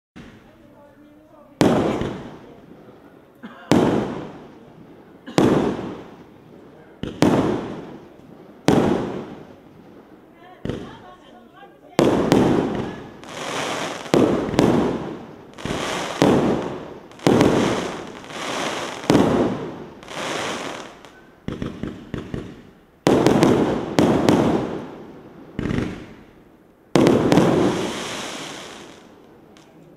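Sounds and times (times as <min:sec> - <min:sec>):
fireworks bangs: 0:00.2 - 0:29.8
crackling hiss of burning stars: 0:01.4 - 0:29.9.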